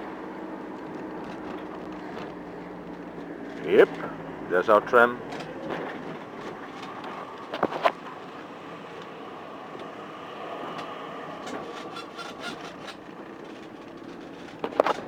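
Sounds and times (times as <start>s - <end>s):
tram rail rumble: 0.0s - 15.0s.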